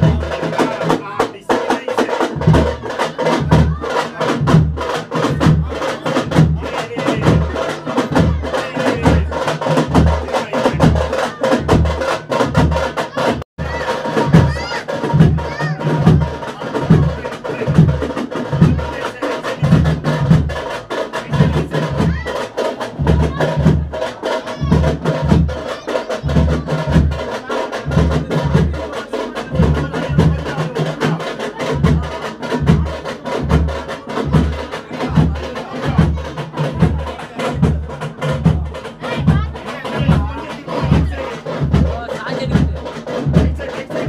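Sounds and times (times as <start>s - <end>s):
deep drum beating: 0.0s - 44.0s.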